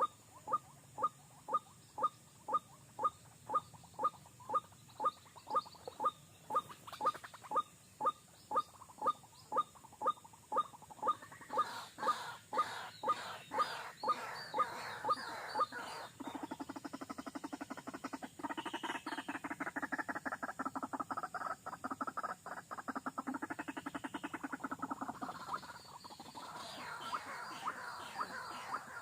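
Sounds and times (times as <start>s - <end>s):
bird calling: 0.0s - 29.0s
bird rattling croak: 0.0s - 29.0s.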